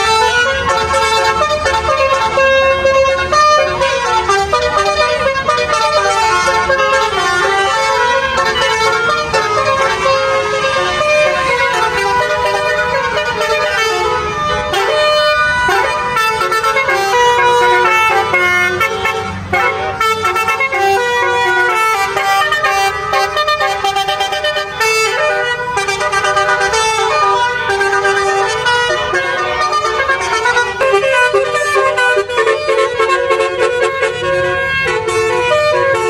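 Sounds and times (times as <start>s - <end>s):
bus air horns playing a tune: 0.0s - 36.0s.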